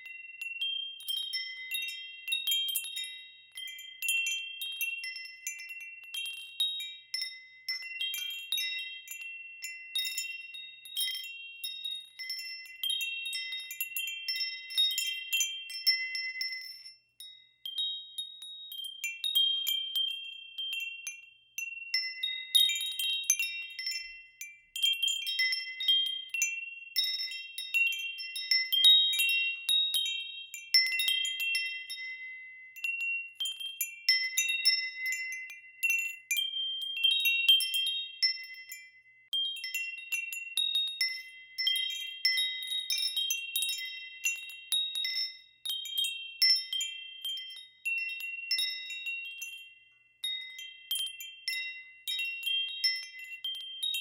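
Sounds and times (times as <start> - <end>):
wind chimes ringing: 0.0 - 54.0.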